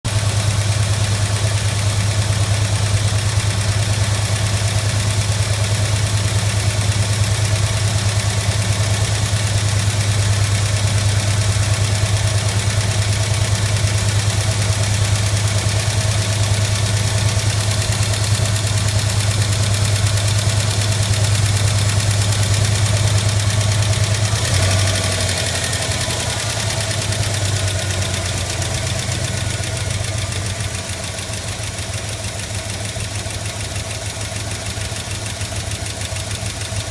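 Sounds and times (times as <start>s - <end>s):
car engine idling: 0.0s - 36.9s
fast valvetrain ticking: 0.1s - 36.9s.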